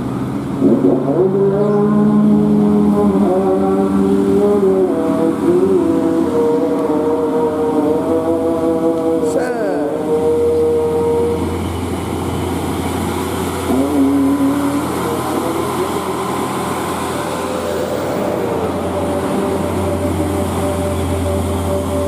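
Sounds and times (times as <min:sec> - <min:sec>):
heavy vehicle engines droning: 0:00.0 - 0:22.0.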